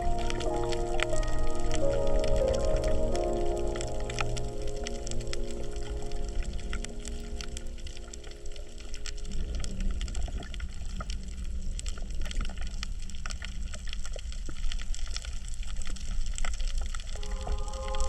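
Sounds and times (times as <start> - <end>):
low rumble of water: 0.0 - 18.0
underwater crackle of clicks: 0.0 - 18.0.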